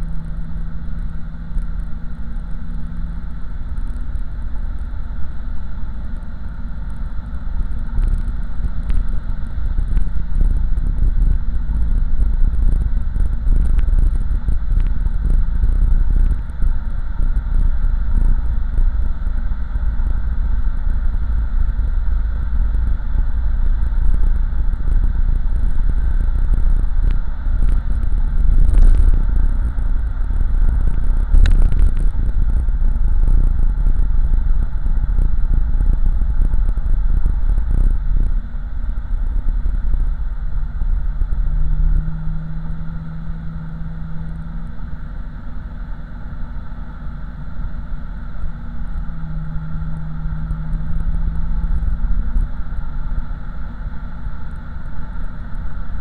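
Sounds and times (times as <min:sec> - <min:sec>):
car engine and exhaust: 0:00.0 - 0:56.0
road and tyre noise: 0:00.0 - 0:56.0.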